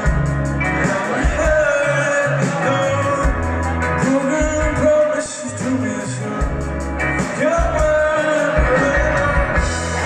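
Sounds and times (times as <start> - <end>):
live rock band playing: 0.0 - 10.0
man singing: 0.0 - 10.0.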